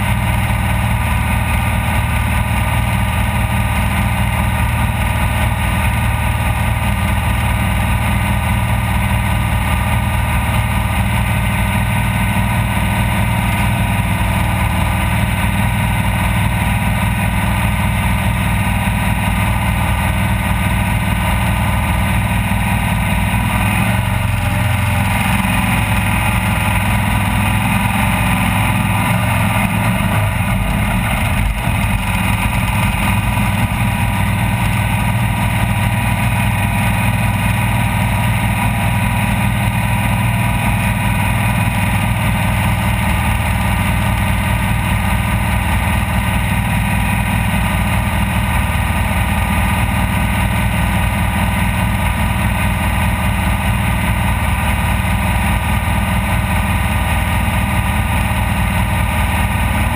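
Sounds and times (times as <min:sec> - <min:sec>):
vehicle engine running loud: 0:00.0 - 0:59.9.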